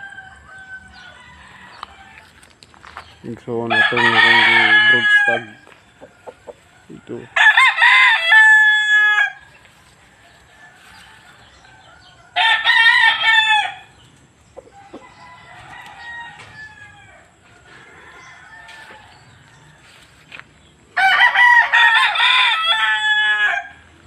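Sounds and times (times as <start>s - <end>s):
rooster crowing: 0.0s - 2.4s, 3.6s - 9.5s, 10.1s - 13.9s, 14.7s - 20.3s, 21.0s - 23.9s
chicken calls and clucks: 0.0s - 24.0s.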